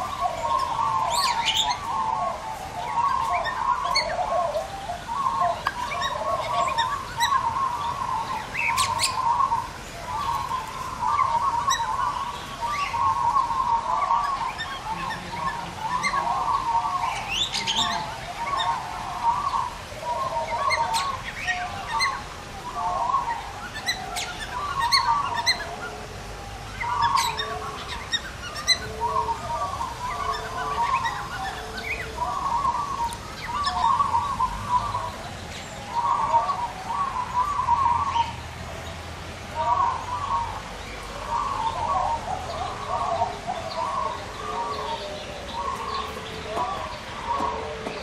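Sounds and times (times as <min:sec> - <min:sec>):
birds chattering: 0:00.0 - 0:48.0.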